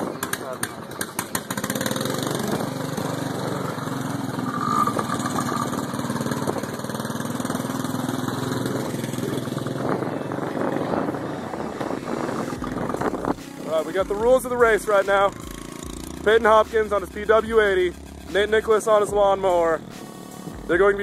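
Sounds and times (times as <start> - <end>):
small petrol engines running: 0.0 - 19.9.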